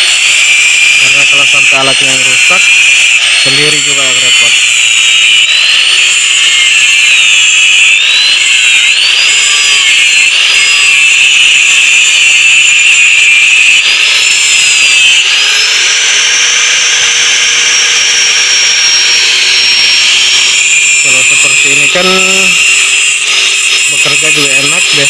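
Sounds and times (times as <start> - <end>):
power tool whining on metal: 0.0 - 25.0.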